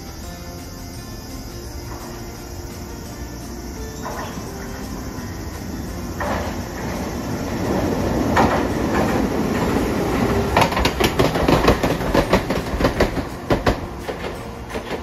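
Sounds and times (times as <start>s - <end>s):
tram wheels rumbling: 0.0s - 15.0s
wheels clacking over track joints: 0.0s - 15.0s.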